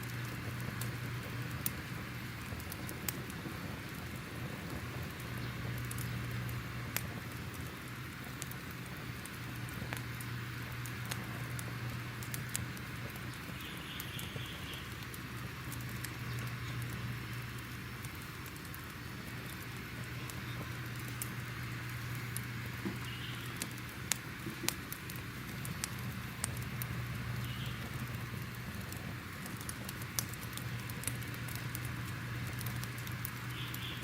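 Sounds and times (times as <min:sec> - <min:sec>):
fire crackling and popping: 0:00.0 - 0:34.0
steady hiss: 0:00.0 - 0:34.0.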